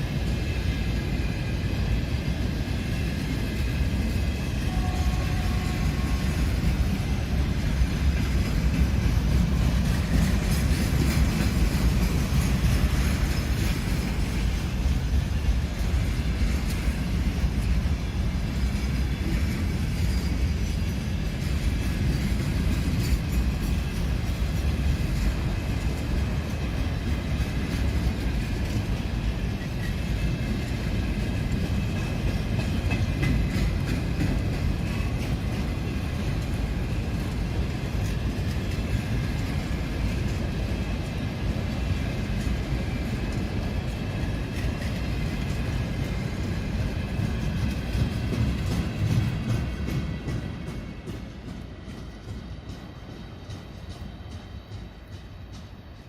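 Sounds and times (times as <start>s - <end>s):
rapid clicking of train wheels: 0.0s - 56.0s
train wheels rumbling on rails: 0.0s - 56.0s.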